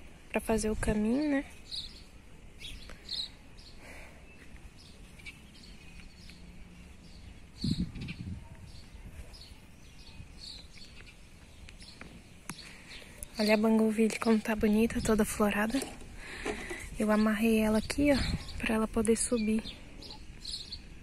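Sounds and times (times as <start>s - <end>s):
faint outdoor background noise: 0.0s - 21.0s
small birds chirping: 0.0s - 21.0s.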